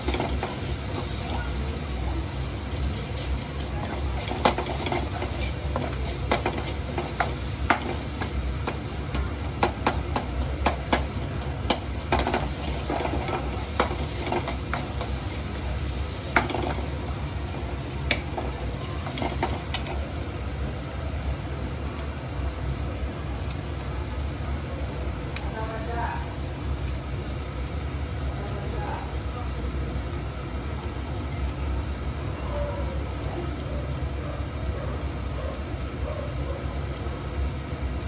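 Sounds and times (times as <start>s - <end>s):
food sizzling: 0.0s - 38.0s.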